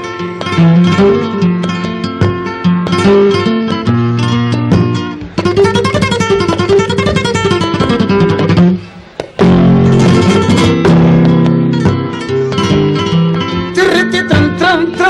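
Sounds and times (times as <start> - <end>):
flamenco acoustic guitar: 0.0 - 15.0.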